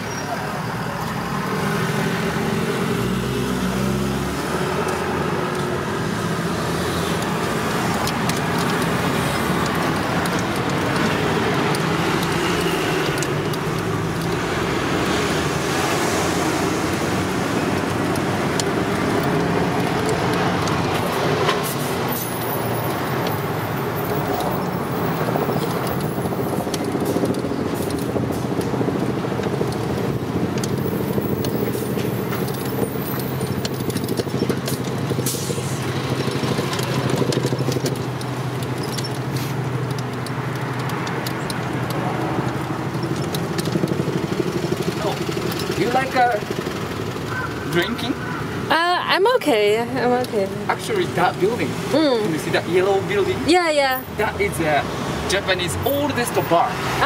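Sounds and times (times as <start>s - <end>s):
city road traffic: 0.0s - 57.0s
rickshaw wheels rumbling on road: 0.0s - 57.0s.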